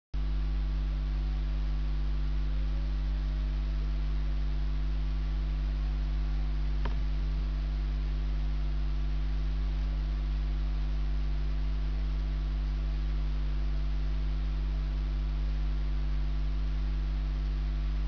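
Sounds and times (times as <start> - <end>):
electrical mains hum: 0.2 - 18.0.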